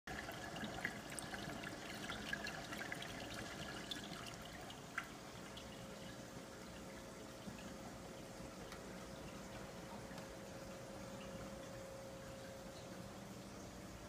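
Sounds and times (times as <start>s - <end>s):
faint steady hum: 0.1s - 14.0s
water drips: 0.1s - 14.0s
water trickling and splashing: 0.1s - 14.0s.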